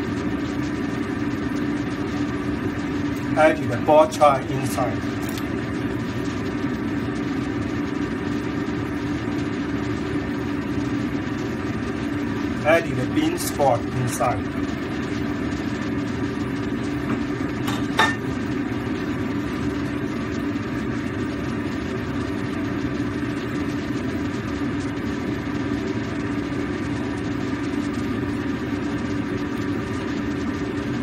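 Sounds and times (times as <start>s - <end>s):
kitchen appliance humming: 0.0s - 31.0s.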